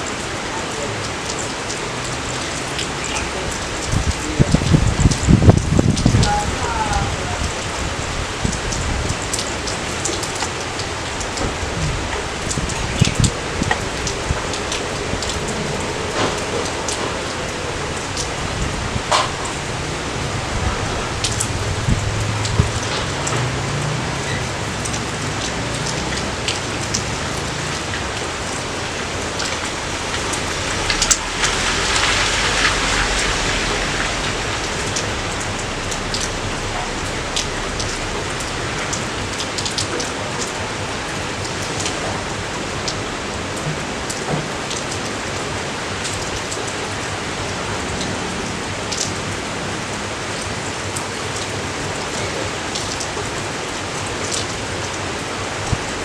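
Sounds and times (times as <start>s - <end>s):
raindrop ticks close by: 0.0s - 56.0s
steady rain falling: 0.0s - 56.0s.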